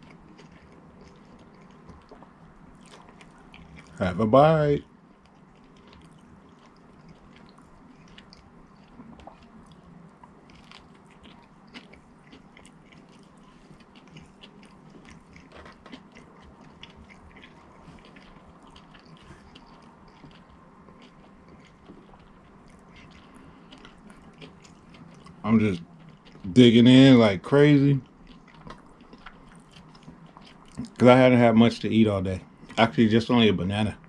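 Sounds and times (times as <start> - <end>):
man chewing food: 0.0 - 31.8, 32.4 - 33.4.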